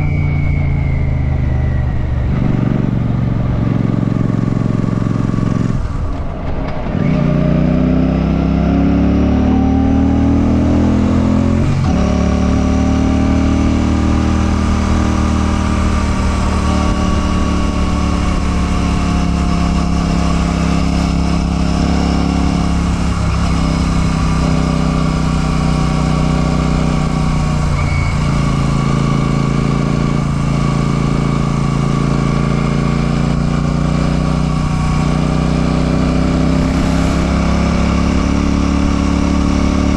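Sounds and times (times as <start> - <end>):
motorcycle engine running: 0.0 - 8.4, 9.2 - 39.9.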